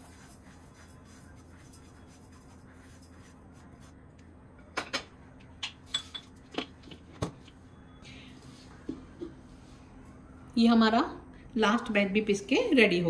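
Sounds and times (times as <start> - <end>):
low steady background hum: 0.0 - 13.0.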